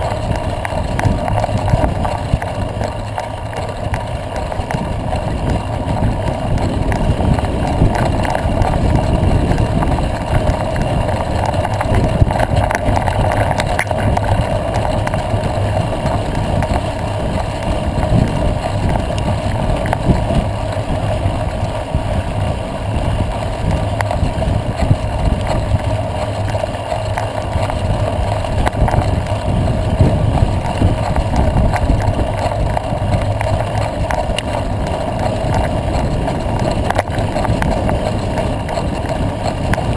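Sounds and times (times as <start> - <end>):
small clicks: 0.0 - 21.8, 23.2 - 39.9
constant drone: 0.0 - 39.9
road rumble: 0.0 - 39.9
wind noise on microphone: 0.0 - 39.9.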